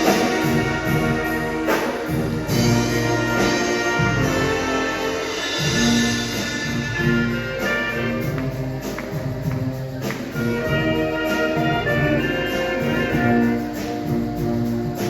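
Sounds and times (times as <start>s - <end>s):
marching band playing pop songs: 0.0s - 15.0s.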